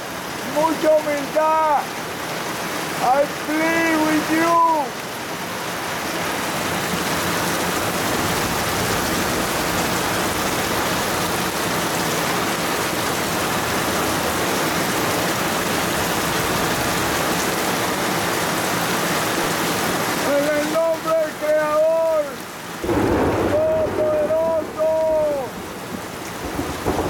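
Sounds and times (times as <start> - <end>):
heavy rain hissing: 0.0 - 27.0.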